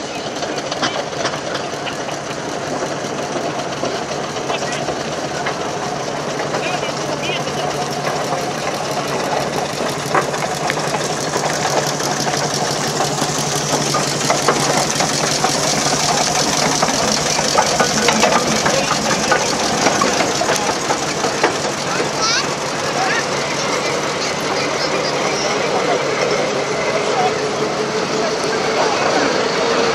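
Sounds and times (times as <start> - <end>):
steam engine clattering: 0.0 - 29.9.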